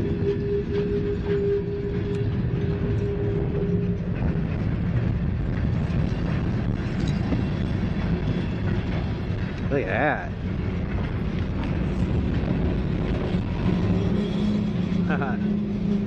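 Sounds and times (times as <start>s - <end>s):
steady tone: 0.0s - 16.0s
train wheels rumbling on rail: 0.0s - 16.0s.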